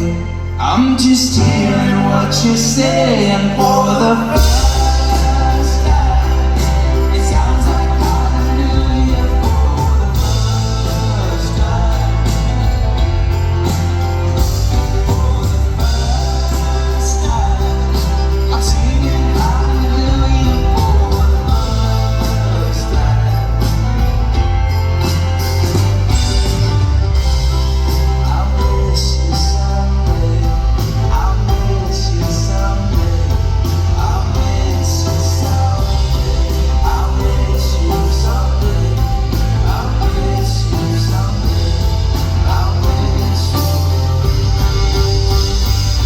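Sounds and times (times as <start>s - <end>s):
folk rock band playing live: 0.0s - 46.0s
strong bass: 0.0s - 46.0s
steady drum beat: 3.6s - 46.0s.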